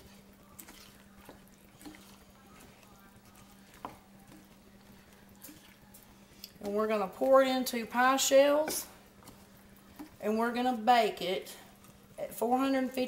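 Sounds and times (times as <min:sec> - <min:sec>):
wet stirring in a bowl: 0:00.0 - 0:13.0.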